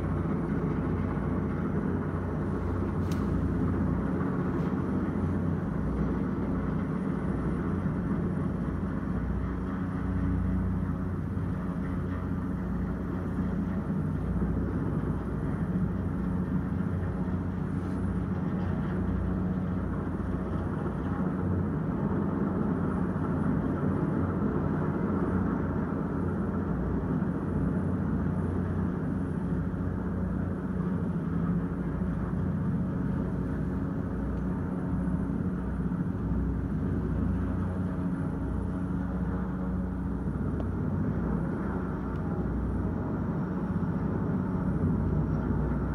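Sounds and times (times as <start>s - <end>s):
muffled helicopter drone: 0.0s - 45.9s.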